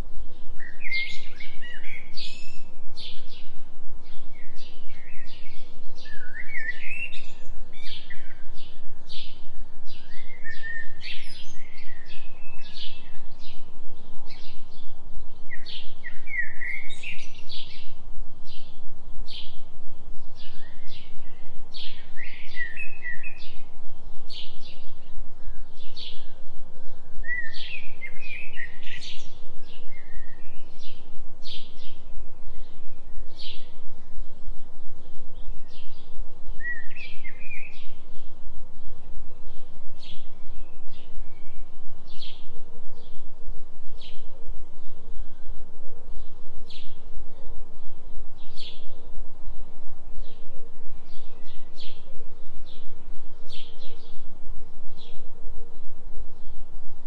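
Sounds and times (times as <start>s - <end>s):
low throbbing binaural tone: 0.0s - 57.0s
birds chirping and singing: 0.3s - 56.7s.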